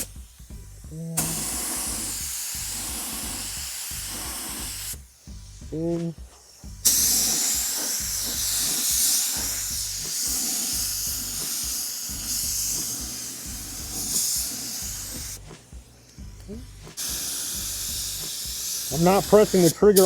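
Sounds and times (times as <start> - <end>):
spray gun air hiss: 0.0 - 20.0.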